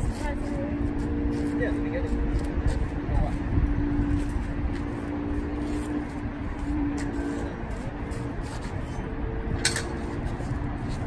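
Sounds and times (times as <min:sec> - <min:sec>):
engine hum: 0:00.0 - 0:11.0
road traffic rumble: 0:00.0 - 0:11.0.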